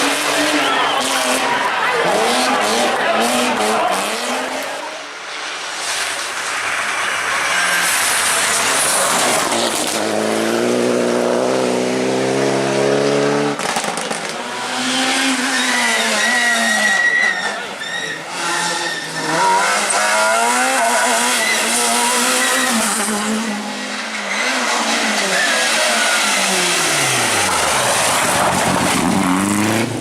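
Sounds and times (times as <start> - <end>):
rally car engine at high revs: 0.0 - 5.0, 5.7 - 30.0
tyre and road noise: 0.0 - 30.0.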